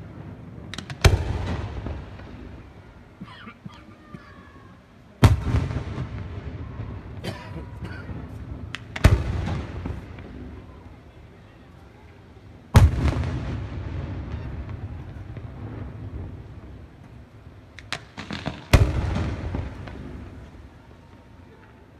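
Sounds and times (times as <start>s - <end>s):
fireworks pops and crackles: 0.0s - 4.6s, 5.2s - 21.9s
fireworks bangs: 0.0s - 21.9s
rolling rumble: 0.0s - 21.9s.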